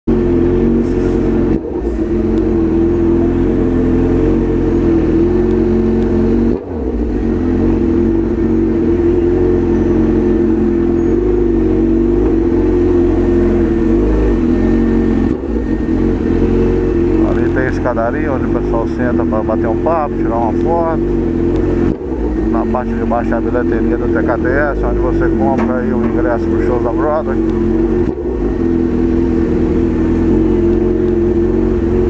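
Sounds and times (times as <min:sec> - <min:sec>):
motorcycle engine running: 0:00.1 - 0:32.0.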